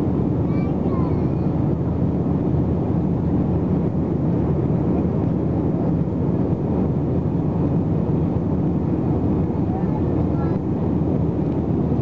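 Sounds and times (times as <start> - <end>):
jet engine cabin noise: 0.0 - 12.0.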